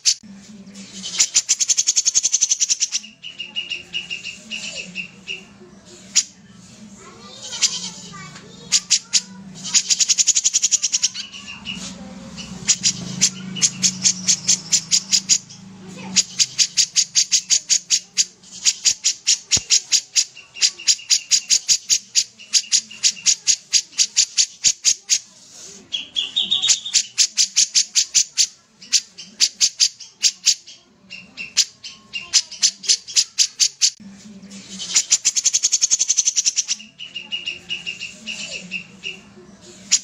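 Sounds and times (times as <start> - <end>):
bird singing rapid high notes: 0.9 - 5.5, 7.4 - 25.2, 25.9 - 34.0, 34.7 - 40.0.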